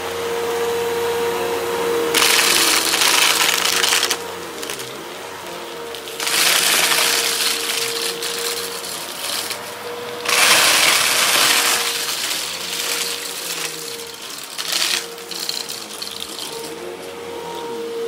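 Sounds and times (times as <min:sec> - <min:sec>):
vacuum cleaner running over rug: 0:00.0 - 0:18.0.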